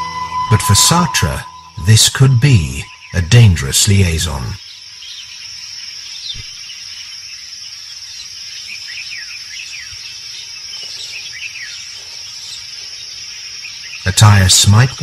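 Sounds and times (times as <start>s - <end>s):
bird chirps: 0.0s - 15.0s
high-pitched insect drone: 0.0s - 15.0s.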